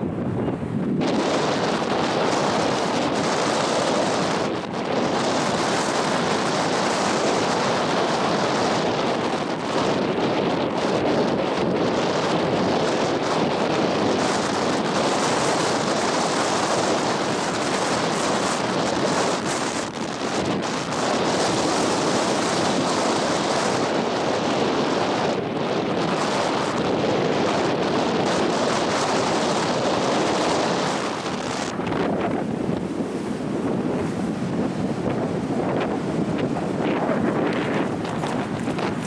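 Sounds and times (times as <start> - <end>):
strong wind buffeting microphone: 0.0 - 39.0.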